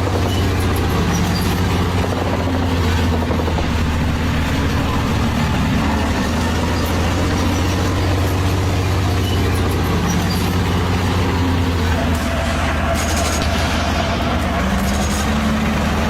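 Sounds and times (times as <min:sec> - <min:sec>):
heavy engine droning: 0:00.0 - 0:16.0.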